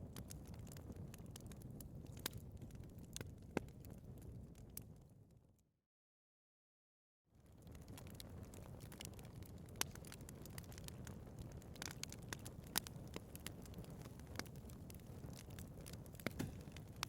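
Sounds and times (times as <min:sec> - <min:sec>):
wood fire crackling and popping: 0:00.0 - 0:05.0, 0:07.4 - 0:17.0.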